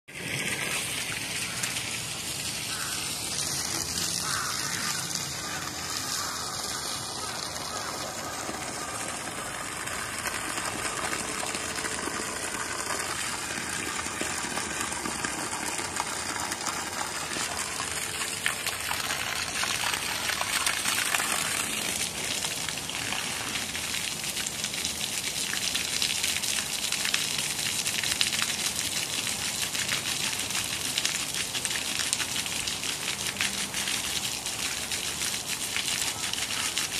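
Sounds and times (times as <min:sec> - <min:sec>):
water spraying onto grass: 0:00.1 - 0:36.9.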